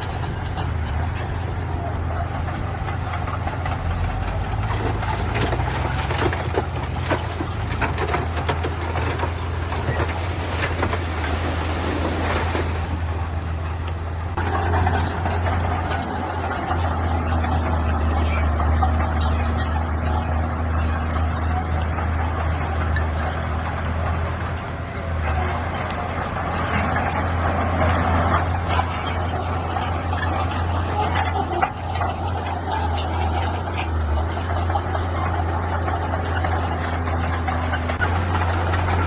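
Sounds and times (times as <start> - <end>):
clanks and rattles: 0.0 - 39.0
diesel construction machinery running: 0.0 - 39.0.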